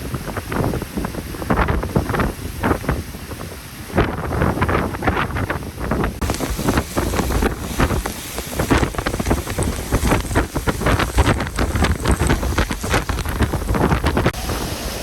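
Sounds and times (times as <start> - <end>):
driving rain: 0.0 - 15.0
hurricane winds: 0.0 - 15.0
wind buffeting microphone: 0.0 - 15.0.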